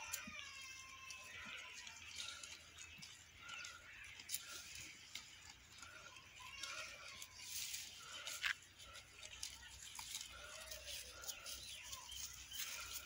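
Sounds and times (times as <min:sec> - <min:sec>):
faint chirps: 0:00.0 - 0:13.0
goats chewing leaves: 0:00.0 - 0:13.0.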